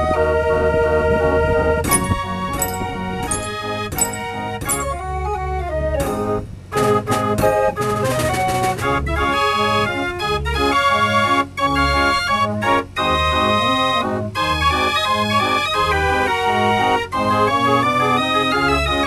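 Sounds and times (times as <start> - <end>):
fair organ playing a tune: 0.0 - 19.0.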